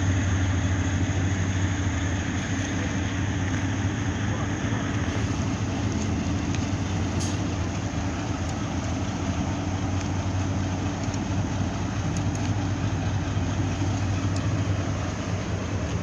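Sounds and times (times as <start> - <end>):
ship diesel engine rumble: 0.0 - 16.0.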